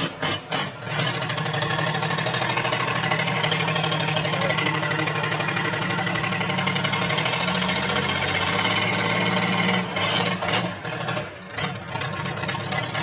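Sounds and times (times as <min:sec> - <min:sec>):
diesel engine clattering: 0:00.0 - 0:13.0.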